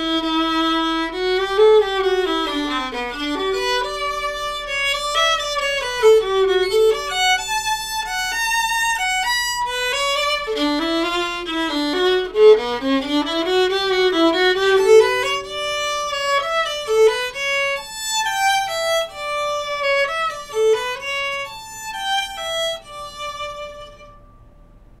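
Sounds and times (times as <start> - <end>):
solo bowed violin melody: 0.0 - 24.5.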